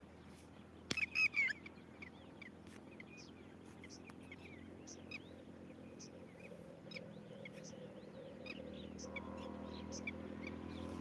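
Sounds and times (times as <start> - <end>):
birds calling: 0.0 - 11.0
birds chirping: 0.0 - 11.0.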